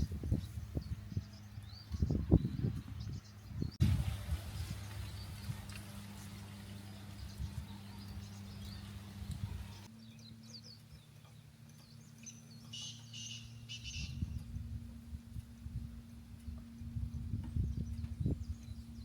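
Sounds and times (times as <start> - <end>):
small birds chirping: 0.0 - 14.6, 15.7 - 19.0
steady low hum: 0.0 - 19.0.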